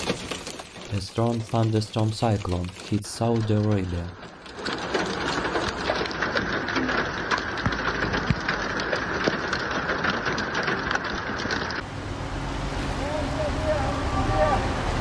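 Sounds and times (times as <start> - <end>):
heavy rain on hard surface: 0.0 - 15.0.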